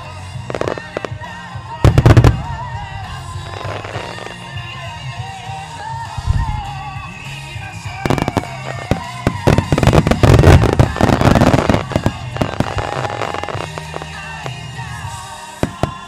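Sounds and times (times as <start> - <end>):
music playing: 0.0 - 16.0.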